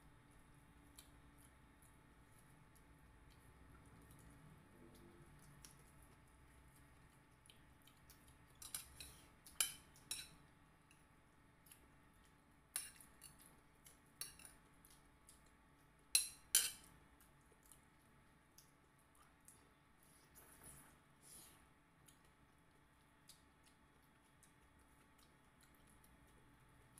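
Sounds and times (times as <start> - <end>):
quiet eating sounds: 0.0 - 26.9.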